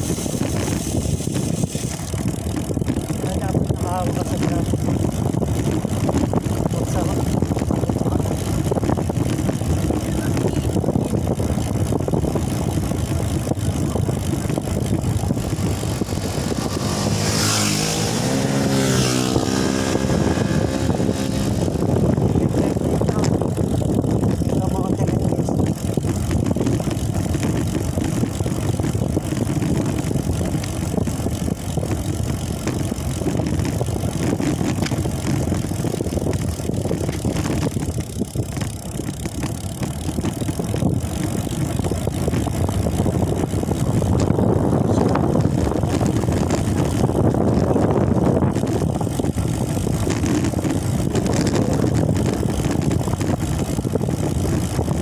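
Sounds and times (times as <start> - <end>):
vehicle road rumble: 0.0 - 55.0
wind buffeting microphone: 0.0 - 55.0.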